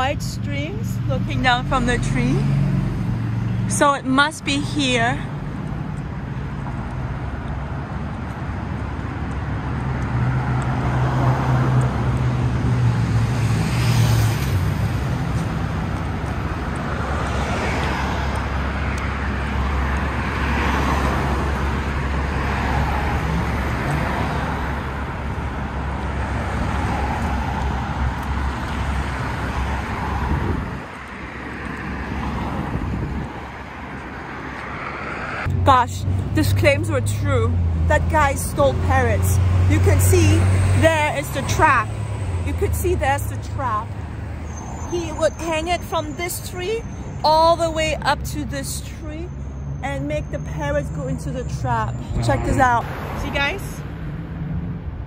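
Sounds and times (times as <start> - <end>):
cars passing: 0.0 - 55.0
low traffic rumble: 0.0 - 55.0
vehicle engine hum: 0.0 - 55.0.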